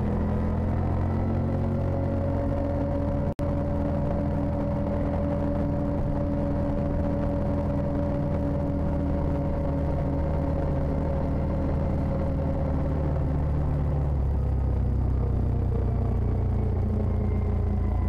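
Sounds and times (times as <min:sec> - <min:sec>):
vehicle engine running steadily: 0:00.0 - 0:18.0.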